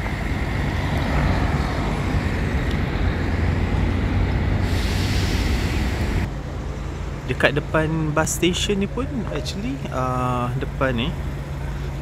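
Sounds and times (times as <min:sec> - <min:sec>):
road traffic noise: 0:00.0 - 0:12.0
vehicle engine rumbling: 0:00.0 - 0:12.0.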